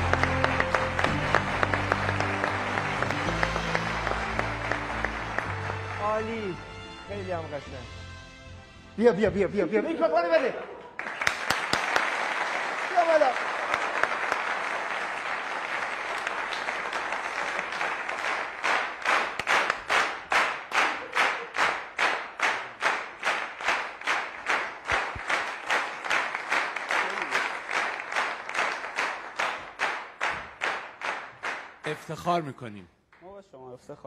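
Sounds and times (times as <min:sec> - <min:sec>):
rhythmic clapping in unison: 0:00.0 - 0:06.8, 0:10.9 - 0:32.3
audience applauding: 0:00.0 - 0:07.0, 0:10.8 - 0:32.4.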